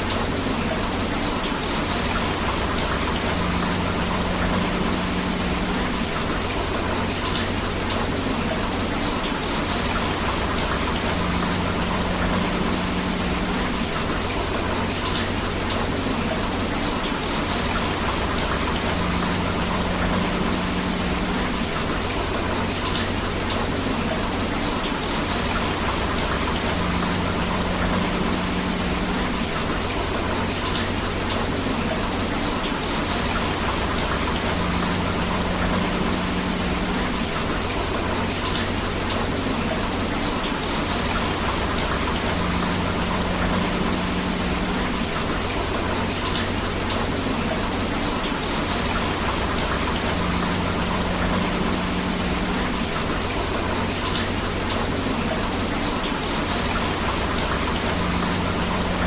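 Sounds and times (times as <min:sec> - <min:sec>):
flowing river: 0:00.0 - 0:59.0
steady rain: 0:00.0 - 0:59.0.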